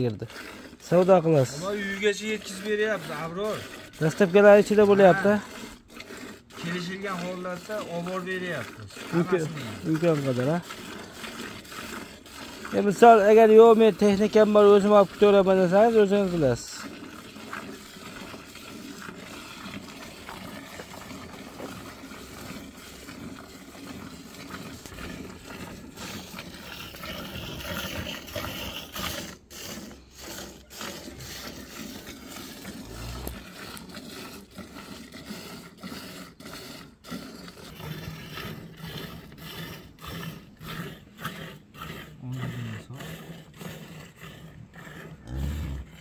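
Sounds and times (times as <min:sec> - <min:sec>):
milk squirting into bucket: 0:00.0 - 0:46.0.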